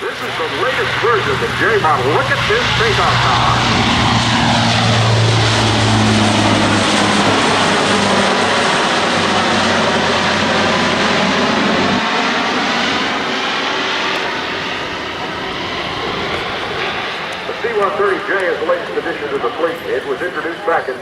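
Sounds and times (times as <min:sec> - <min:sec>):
low propeller hum: 0:00.0 - 0:21.0
turboprop aircraft engines droning: 0:00.0 - 0:21.0.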